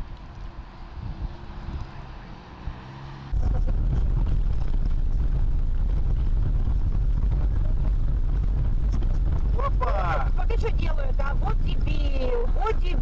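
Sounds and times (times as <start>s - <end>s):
faint car engine hum: 0.0s - 13.0s
road and wind noise: 0.0s - 13.0s.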